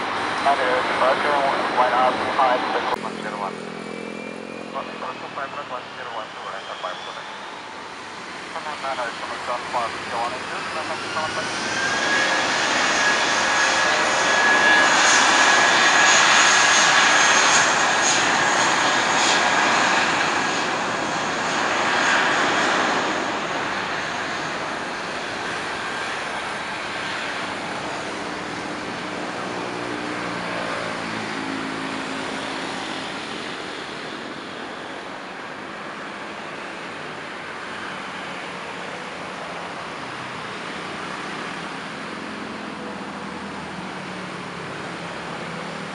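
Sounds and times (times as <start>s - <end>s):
jet airliner taking off: 0.0s - 45.9s.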